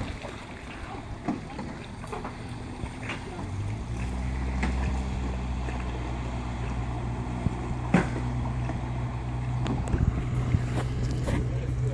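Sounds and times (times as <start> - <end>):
outboard motor humming: 0.0 - 11.9.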